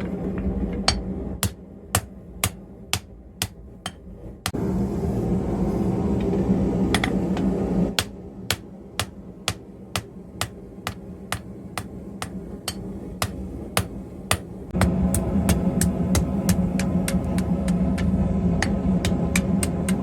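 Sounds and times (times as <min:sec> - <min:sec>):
steady hum: 0:00.0 - 0:20.0
hammer striking hot iron on anvil: 0:00.9 - 0:04.1, 0:07.0 - 0:20.0.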